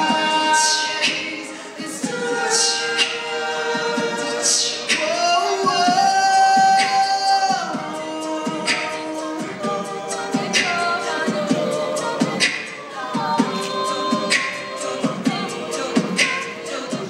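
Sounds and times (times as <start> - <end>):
a cappella group singing chords: 0.0 - 17.0
beatboxed percussion: 0.0 - 17.0.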